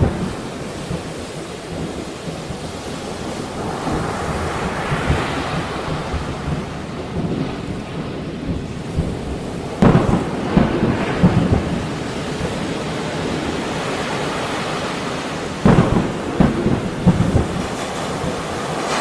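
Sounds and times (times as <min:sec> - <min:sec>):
rain: 0:00.0 - 0:19.0
sea surf: 0:00.0 - 0:19.0
thunder rumbling: 0:00.0 - 0:19.0.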